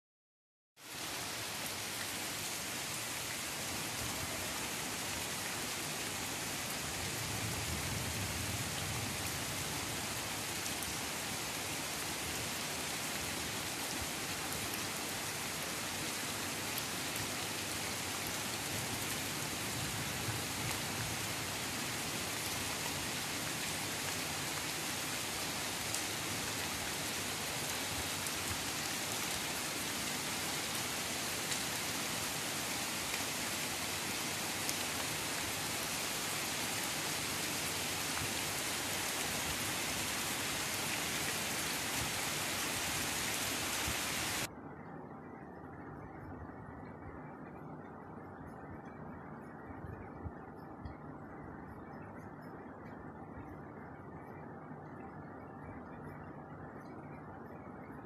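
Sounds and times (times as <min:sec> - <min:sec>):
steady rain: 0:00.8 - 0:58.0.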